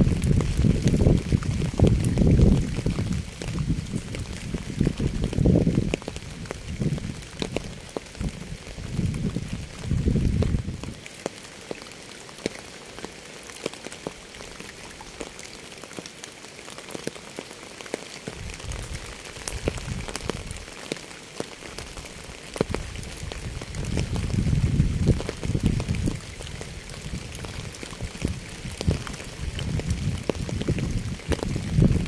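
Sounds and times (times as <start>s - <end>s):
rain drops tapping hard surface: 0.0s - 32.0s.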